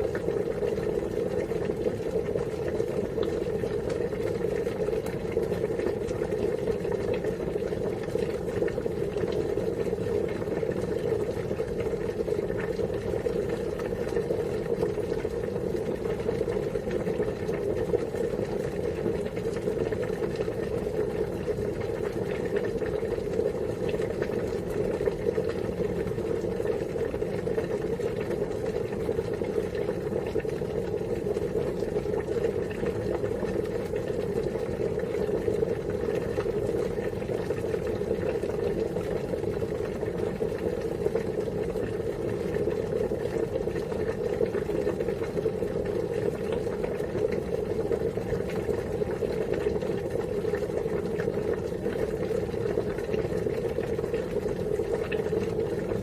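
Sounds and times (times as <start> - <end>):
water boiling: 0.0 - 56.0.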